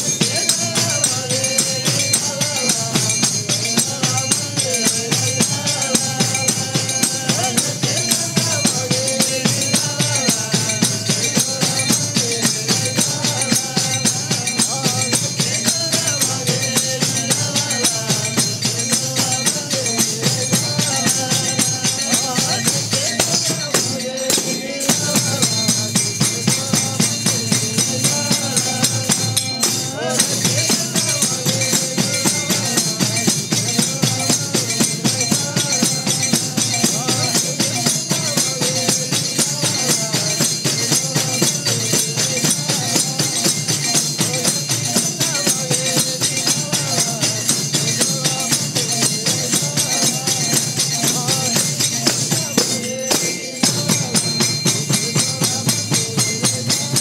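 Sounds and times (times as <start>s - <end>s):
drum beat: 0.0s - 57.0s
jingling hand percussion: 0.0s - 57.0s.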